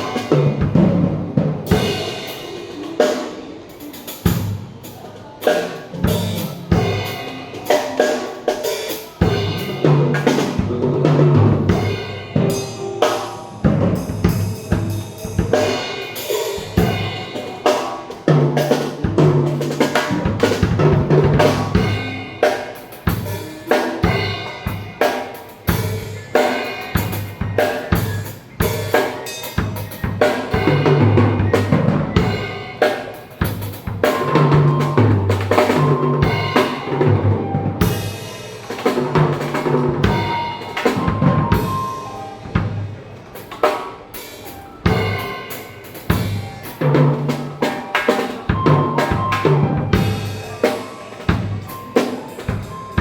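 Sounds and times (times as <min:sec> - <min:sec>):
drum kit playing: 0:00.0 - 0:53.0.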